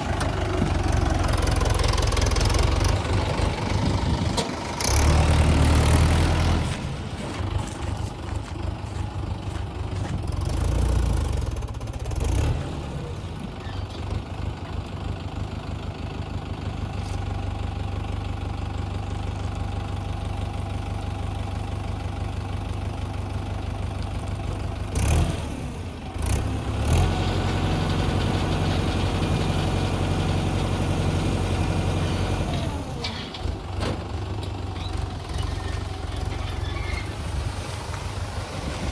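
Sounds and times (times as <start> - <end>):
diesel engine idling: 0.0 - 12.2, 13.0 - 36.8.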